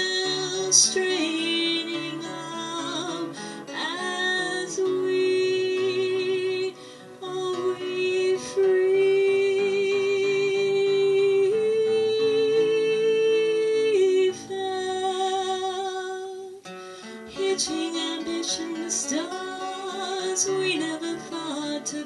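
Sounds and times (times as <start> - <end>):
woman singing long held notes: 0.0 - 16.6, 17.3 - 22.0.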